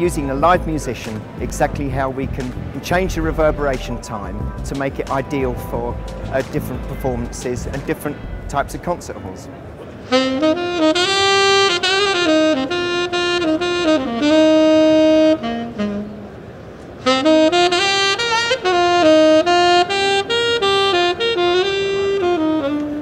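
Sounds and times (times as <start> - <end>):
tenor saxophone jazz melody: 0.0 - 8.9, 10.0 - 23.0.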